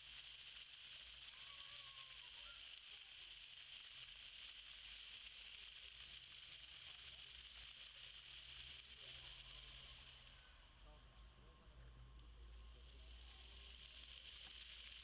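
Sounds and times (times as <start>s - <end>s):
fountain water jets splashing: 0.0s - 10.8s, 12.3s - 15.0s.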